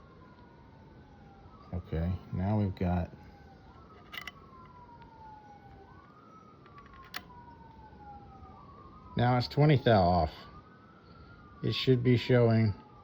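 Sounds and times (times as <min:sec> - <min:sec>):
faint wailing siren: 0:00.0 - 0:13.0.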